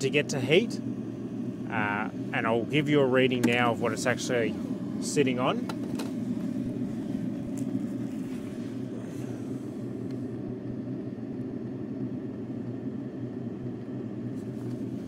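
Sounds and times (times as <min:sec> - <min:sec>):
heater humming: 0:00.0 - 0:15.0.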